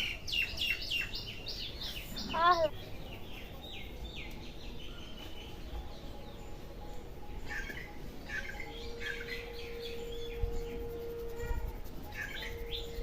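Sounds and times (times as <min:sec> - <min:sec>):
small birds chirping: 0:00.0 - 0:13.0
steady faint tone: 0:01.4 - 0:13.0.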